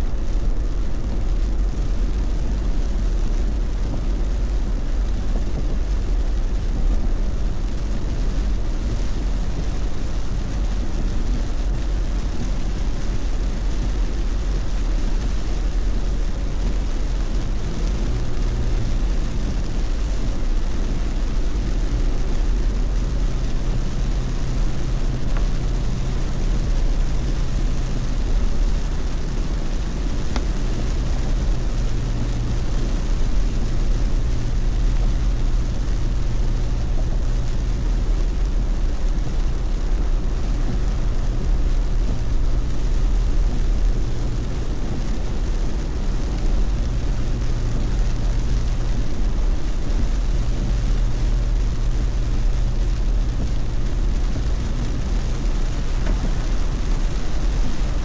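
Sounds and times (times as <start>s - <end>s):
car engine and road noise: 0.0s - 58.0s
heavy rain and tyre spray: 0.0s - 58.0s.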